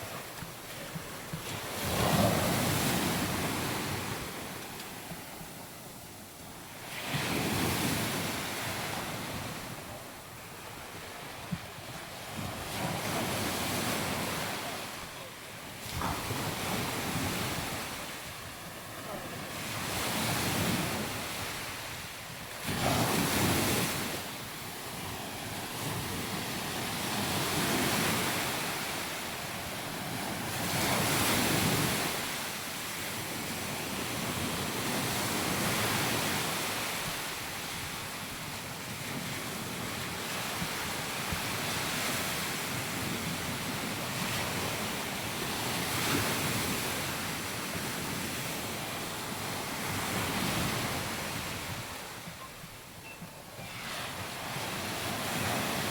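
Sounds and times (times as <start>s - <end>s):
sea waves breaking on beach: 0.0s - 9.9s, 10.7s - 55.9s.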